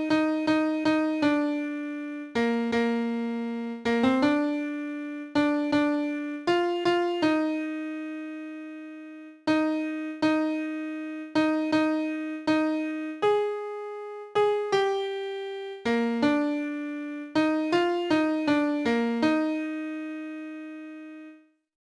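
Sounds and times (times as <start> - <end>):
keyboard melody line: 0.0 - 21.4.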